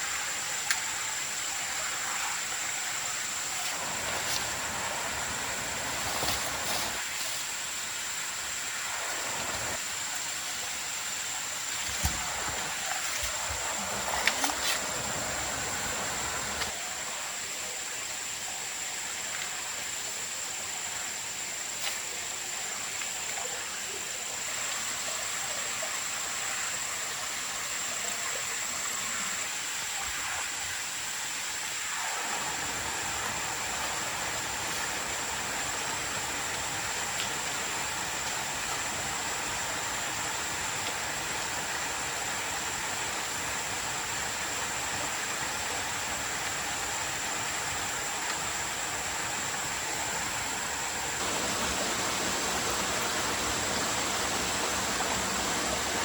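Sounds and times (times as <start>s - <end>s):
water rushing: 0.0s - 20.6s, 21.3s - 56.0s.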